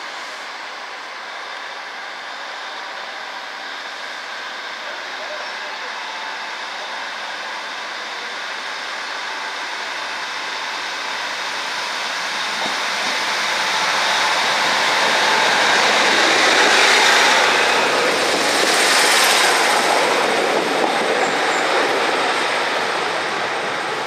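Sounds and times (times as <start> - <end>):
diesel train engine and wheels: 0.0 - 24.0.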